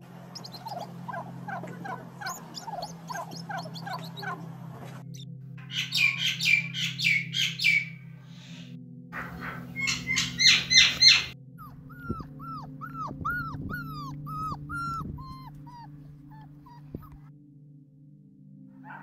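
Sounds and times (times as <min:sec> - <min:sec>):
birds calling: 0:00.0 - 0:17.3
low steady drone: 0:00.0 - 0:18.8.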